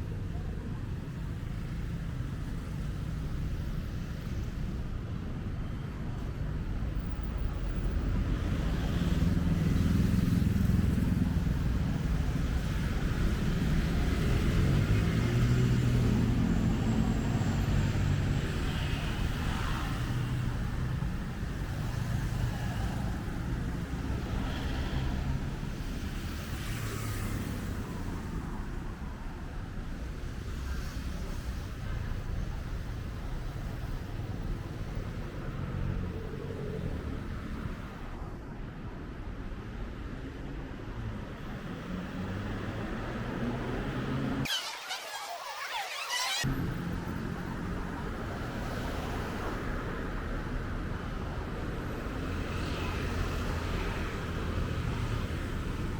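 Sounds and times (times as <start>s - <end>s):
vehicle engine and tyre noise: 0.0s - 55.9s.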